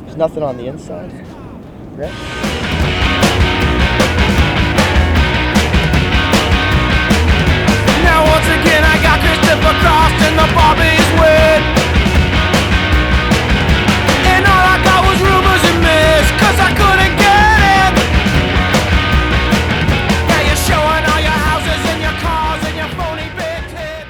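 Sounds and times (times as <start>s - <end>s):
punk rock music: 2.1s - 24.0s.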